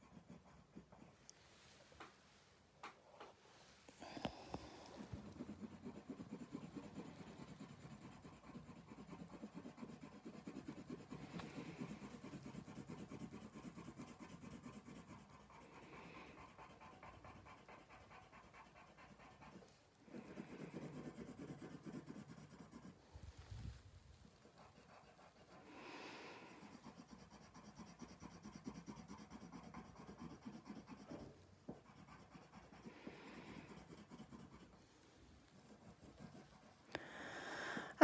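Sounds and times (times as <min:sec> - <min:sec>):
pencil scratching on paper: 0:00.0 - 0:01.3, 0:04.0 - 0:23.1, 0:24.2 - 0:36.9.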